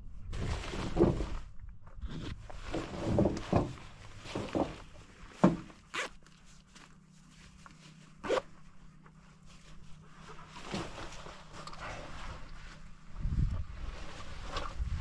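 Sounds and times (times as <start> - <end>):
fabric rustling: 0.3 - 15.0.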